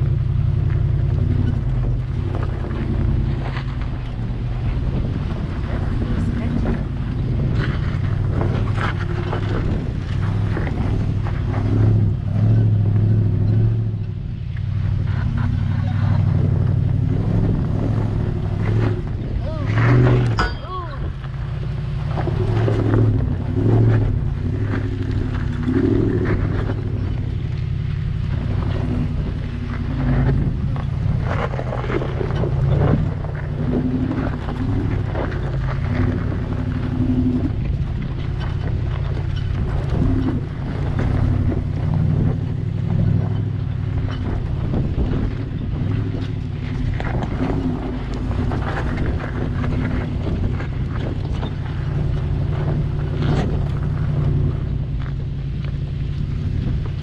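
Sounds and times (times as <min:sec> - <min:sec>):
truck engine revving under load: 0:00.0 - 0:57.0
vehicle knocks and crunches: 0:00.0 - 0:57.0
wind buffeting the microphone: 0:00.0 - 0:57.0.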